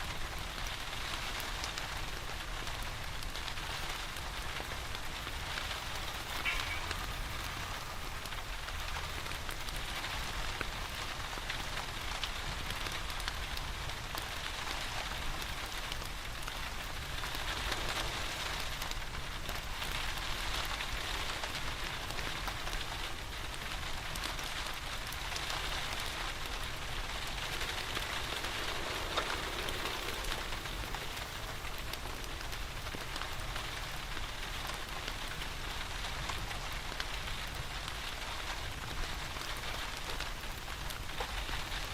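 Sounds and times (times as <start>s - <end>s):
steady rain falling: 0.0s - 41.9s
wood fire crackling: 0.0s - 41.9s.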